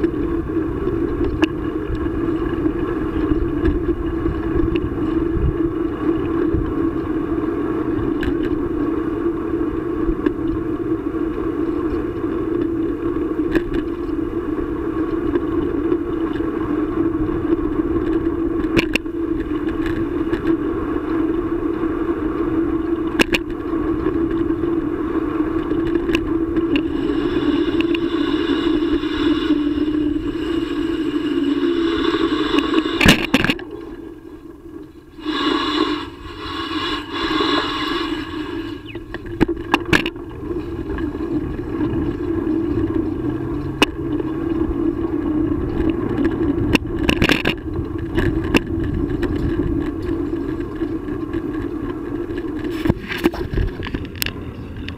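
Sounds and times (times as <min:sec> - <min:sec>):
bicycle tyres rolling hum: 0:00.0 - 0:54.9.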